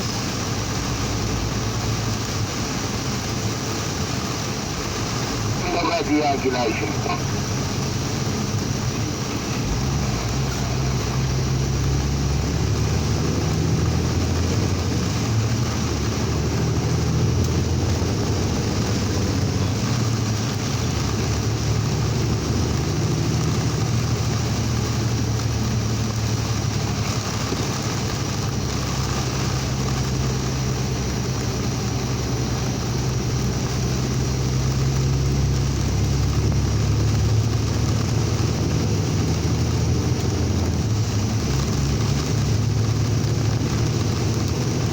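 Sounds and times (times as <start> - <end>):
heavy rain on vehicle: 0.0 - 44.9
road noise: 0.0 - 44.9
vehicle engine drone: 0.0 - 44.9.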